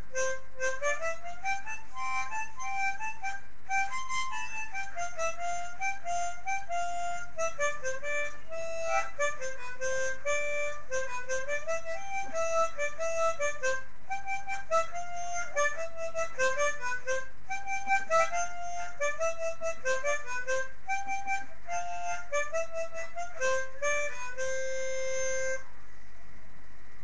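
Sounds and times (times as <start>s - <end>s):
harmonica melody: 0.0s - 25.7s.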